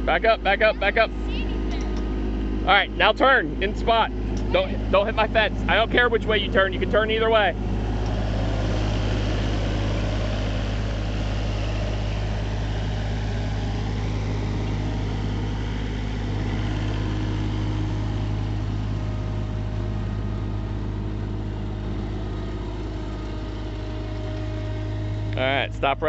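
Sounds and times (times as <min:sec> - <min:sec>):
skid steer engine running: 0:00.0 - 0:26.0.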